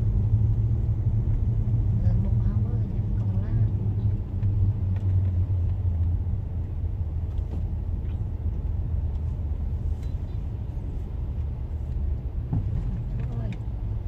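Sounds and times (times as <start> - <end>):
diesel truck engines rumbling: 0.0 - 14.0
slow road traffic: 0.0 - 14.0.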